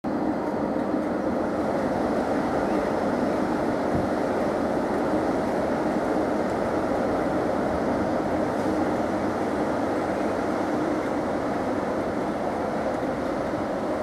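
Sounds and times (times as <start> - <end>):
electric locomotive machinery noise: 0.0 - 14.0.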